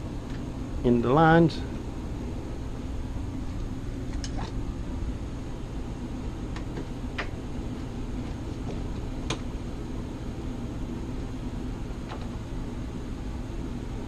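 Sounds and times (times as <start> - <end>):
air handler humming: 0.0 - 14.0.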